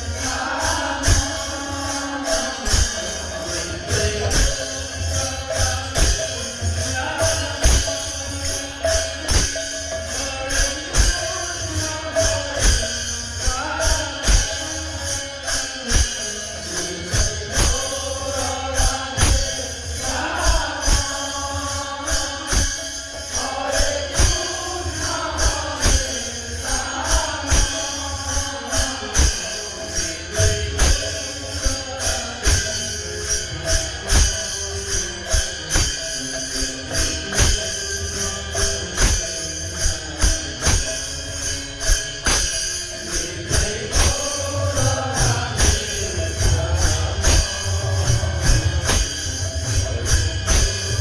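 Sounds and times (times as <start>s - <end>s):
jingling metal strikes: 0.0s - 51.0s
voices chanting: 0.0s - 51.0s.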